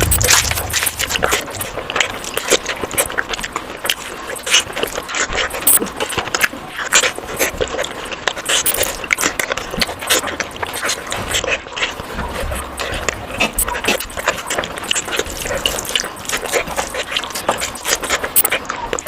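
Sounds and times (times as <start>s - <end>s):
person chewing: 0.0s - 19.0s.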